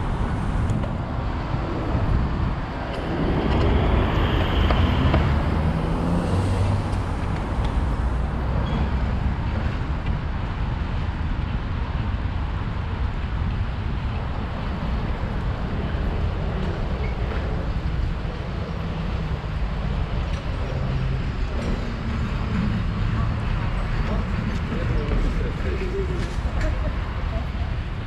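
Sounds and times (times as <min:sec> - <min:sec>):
city street traffic: 0:00.0 - 0:28.0
wind noise on microphone: 0:00.0 - 0:28.0.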